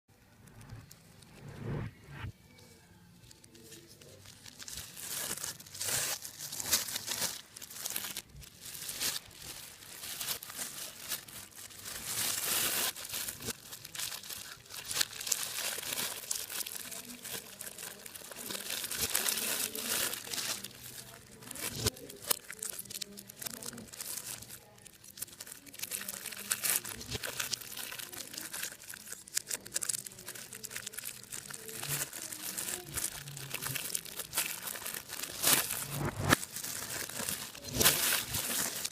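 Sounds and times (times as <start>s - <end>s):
brittle material crinkling and tearing: 3.2s - 38.9s.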